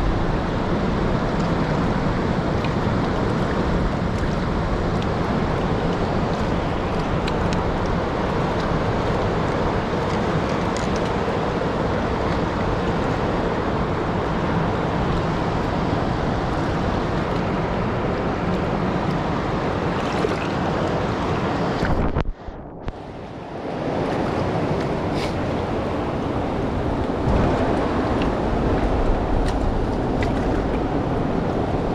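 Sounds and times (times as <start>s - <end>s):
river water flowing over rocks: 0.0s - 31.9s.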